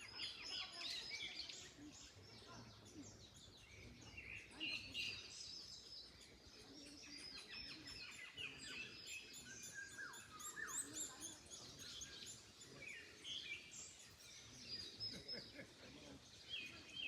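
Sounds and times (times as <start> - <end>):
small birds singing and chirping: 0.0 - 17.0.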